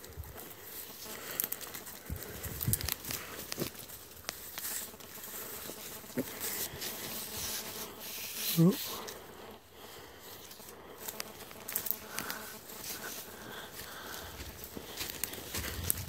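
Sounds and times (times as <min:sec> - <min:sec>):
crackles and rustles of undergrowth: 0:00.0 - 0:16.0
footsteps in dry leaves: 0:00.0 - 0:16.0.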